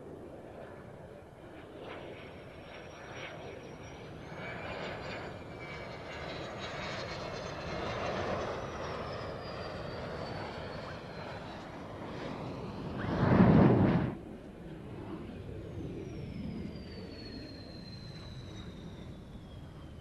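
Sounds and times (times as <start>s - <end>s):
jet engine whining past: 0.0s - 20.0s.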